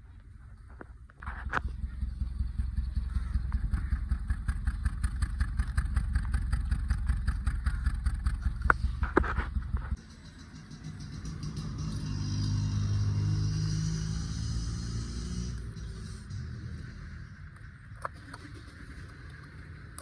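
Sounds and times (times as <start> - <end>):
misfiring car engine pulsing: 1.2 - 20.0.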